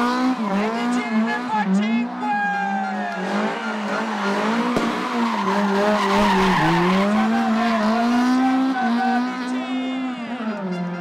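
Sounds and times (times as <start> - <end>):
rally car engine revving: 0.0 - 11.0
tyres skidding: 0.0 - 11.0.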